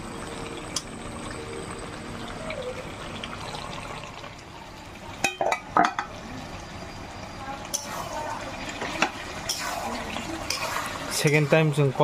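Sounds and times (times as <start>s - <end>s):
curry bubbling and hissing: 0.0s - 12.0s.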